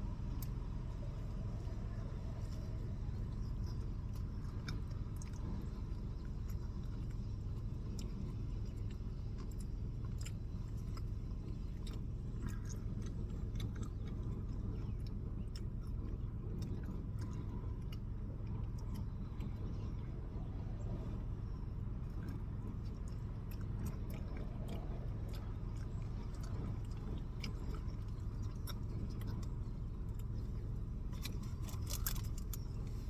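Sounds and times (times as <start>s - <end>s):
steady low rumble: 0.0s - 33.0s
person chewing food: 0.2s - 33.0s.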